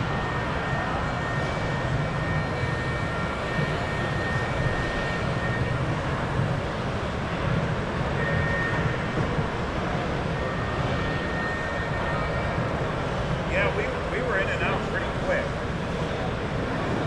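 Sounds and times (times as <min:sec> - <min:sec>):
exhibition hall din: 0:00.0 - 0:17.0.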